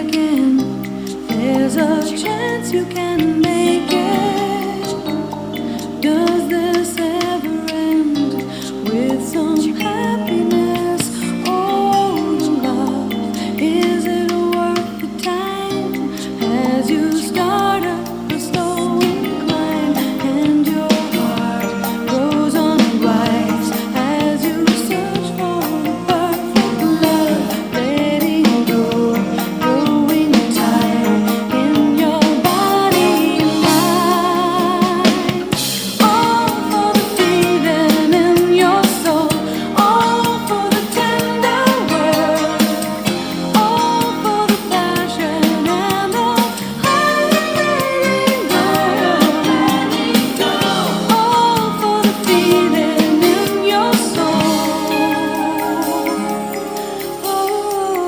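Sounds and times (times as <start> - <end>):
pop love song through small speaker: 0.0 - 58.0.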